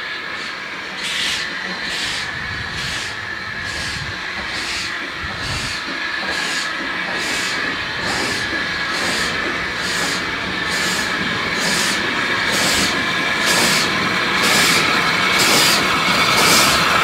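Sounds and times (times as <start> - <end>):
steady hiss of steam: 0.0 - 17.0
steam locomotive exhaust beats: 0.0 - 17.0.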